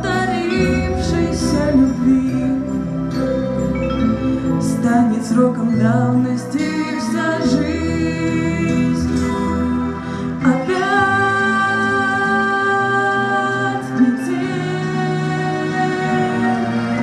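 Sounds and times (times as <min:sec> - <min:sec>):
pop ballad music: 0:00.0 - 0:17.0
woman singing: 0:00.0 - 0:17.0.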